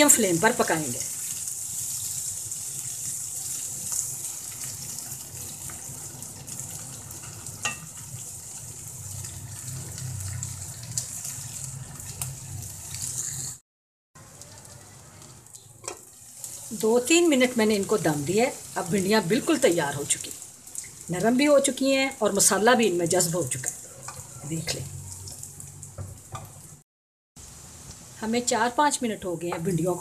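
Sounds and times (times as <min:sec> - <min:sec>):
okra sizzling in oil: 0:00.0 - 0:13.6, 0:14.2 - 0:26.8, 0:27.4 - 0:30.0.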